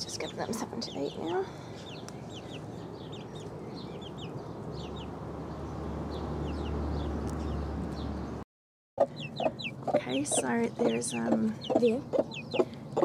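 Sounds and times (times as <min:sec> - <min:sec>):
chicks peeping: 0:00.0 - 0:08.1, 0:09.0 - 0:13.0.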